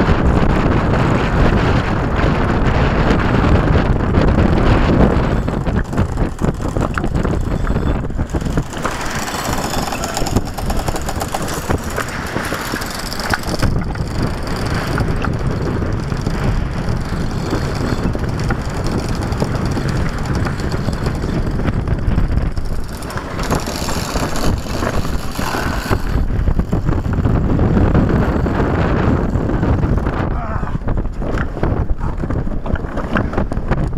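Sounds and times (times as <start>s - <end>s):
sail and rigging flapping: 0.0s - 33.9s
wind buffeting microphone: 0.0s - 33.9s.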